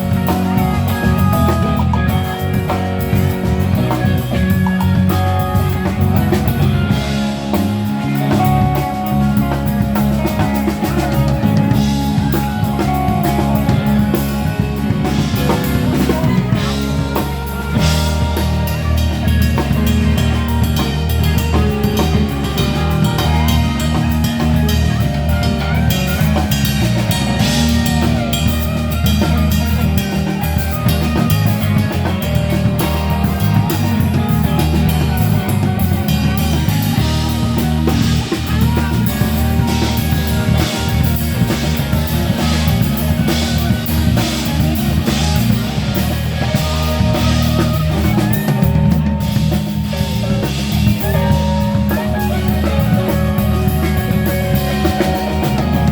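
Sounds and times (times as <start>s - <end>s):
bass guitar: 0.0s - 55.9s
drum kit steady beat: 0.0s - 55.9s
electric guitar: 0.0s - 55.9s.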